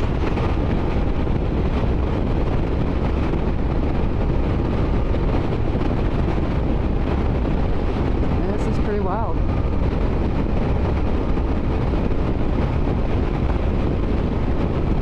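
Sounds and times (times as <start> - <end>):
motorcycle engine and tyre rumble: 0.0 - 15.0
wind rushing over microphone: 0.0 - 15.0.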